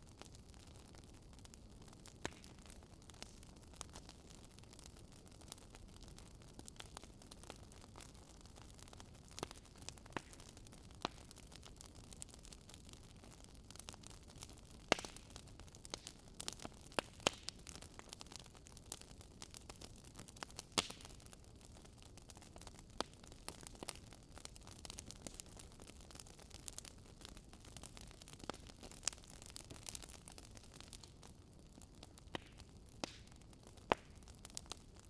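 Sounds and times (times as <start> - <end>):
campfire crackling and popping: 0.0 - 35.0
low rustle of burning wood: 0.0 - 35.0.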